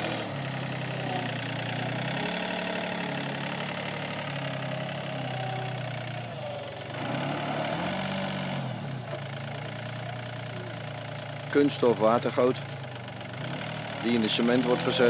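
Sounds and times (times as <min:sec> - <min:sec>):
mini loader engine revving: 0:00.0 - 0:15.0.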